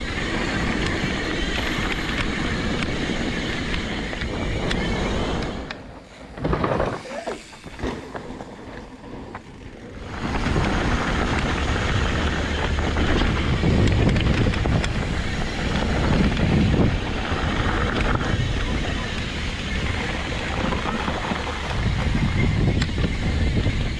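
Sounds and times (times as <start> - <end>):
bike rattling: 0.0 - 23.9
bike tyres rumbling on dirt: 0.0 - 23.9
wind rushing over microphone: 0.0 - 23.9.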